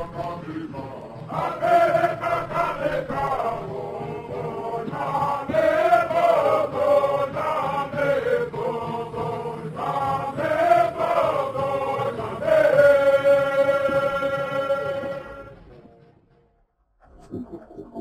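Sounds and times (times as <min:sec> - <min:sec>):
voices chanting a song: 0:00.0 - 0:15.8.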